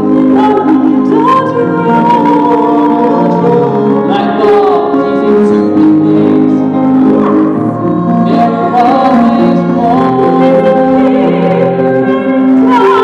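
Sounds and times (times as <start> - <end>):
piano accompaniment: 0.0 - 13.0
group singing: 2.3 - 13.0.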